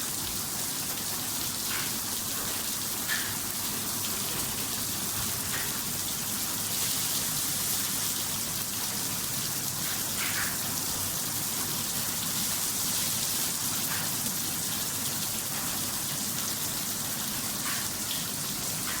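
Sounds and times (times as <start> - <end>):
water spraying onto light: 0.0 - 19.0.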